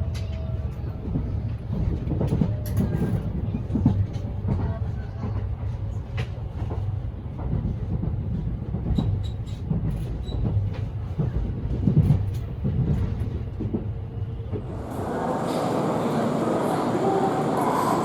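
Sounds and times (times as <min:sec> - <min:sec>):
train running low rumble: 0:00.0 - 0:18.0.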